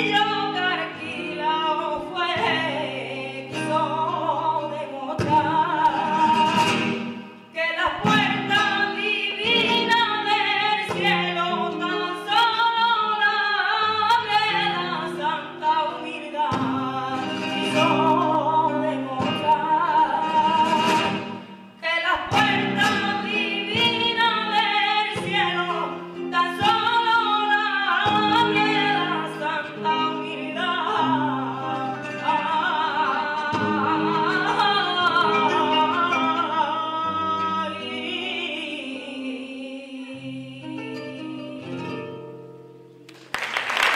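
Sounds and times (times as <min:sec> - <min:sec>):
plucked acoustic guitar: 0:00.0 - 0:39.4, 0:40.0 - 0:43.3
woman singing flamenco-style song: 0:00.0 - 0:43.3.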